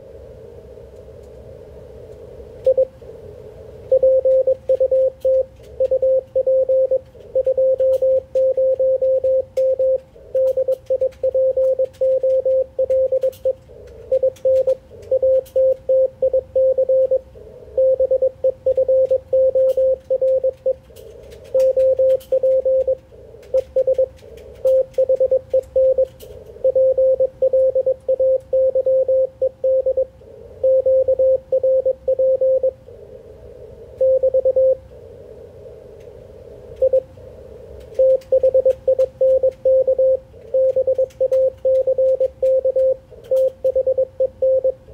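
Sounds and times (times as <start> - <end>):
faint static clicks: 0.0 - 44.9
morse code tone: 3.9 - 20.8, 21.5 - 32.8, 34.0 - 34.8, 36.8 - 37.1, 38.0 - 44.8.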